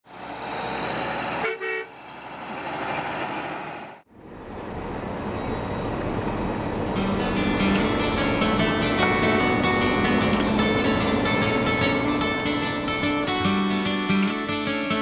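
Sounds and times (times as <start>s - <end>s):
vehicle road noise: 0.0s - 15.0s.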